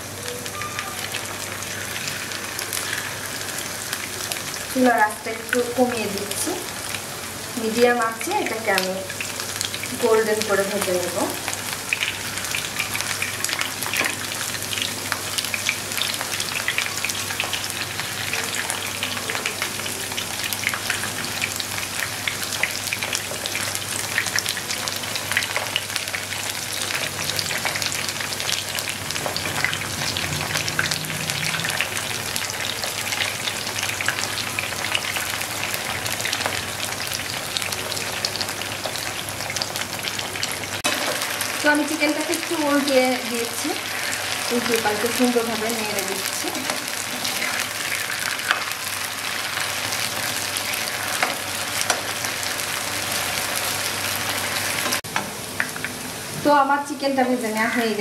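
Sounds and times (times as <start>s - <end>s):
chicken frying in hot oil: 0.0s - 58.0s.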